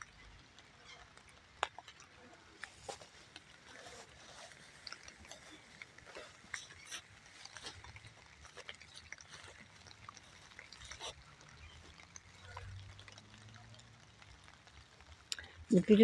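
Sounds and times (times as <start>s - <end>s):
raindrops tapping: 0.0s - 16.0s.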